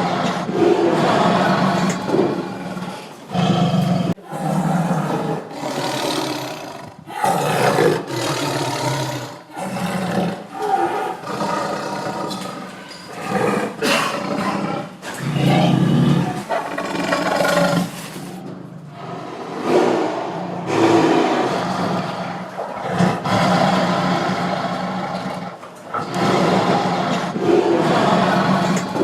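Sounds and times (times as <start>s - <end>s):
tiger roaring: 0.0s - 29.0s.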